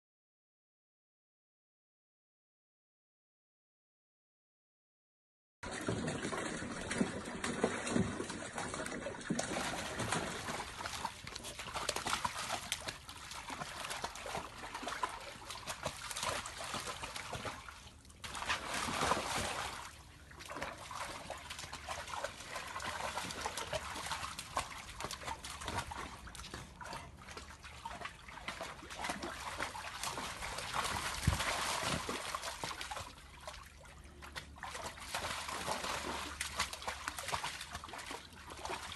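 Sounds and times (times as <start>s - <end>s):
water sloshing and splashing: 5.7s - 38.9s.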